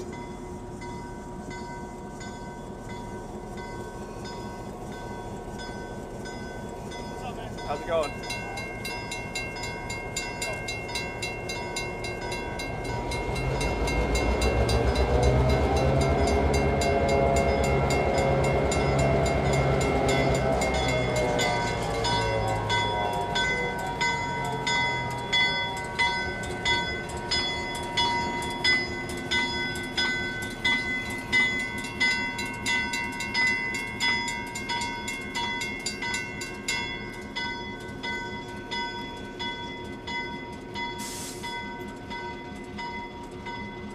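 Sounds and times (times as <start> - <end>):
crossing signal bell ringing: 0.0 - 43.9
diesel locomotive rumbling: 0.0 - 43.9.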